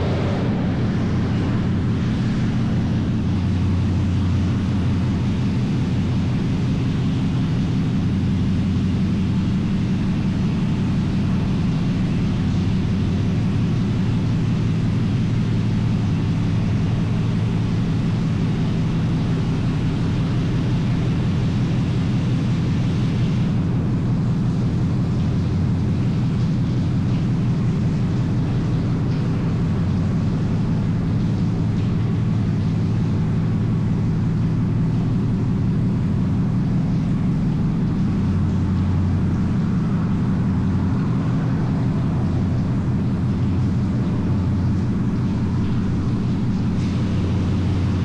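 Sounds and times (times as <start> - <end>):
low engine drone: 0.0 - 48.0.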